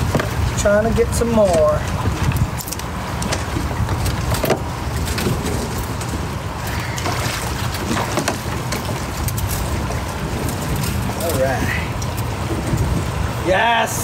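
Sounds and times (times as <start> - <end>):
water around kayak: 0.0 - 14.0
wind rumbling on microphone: 0.0 - 14.0.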